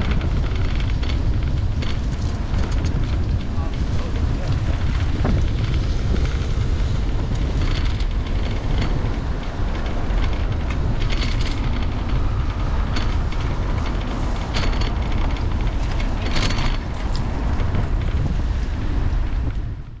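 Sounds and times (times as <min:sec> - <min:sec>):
short rattles: 0:00.0 - 0:19.9
bicycle tyres on path: 0:00.0 - 0:20.0
wind buffeting microphone: 0:00.0 - 0:20.0.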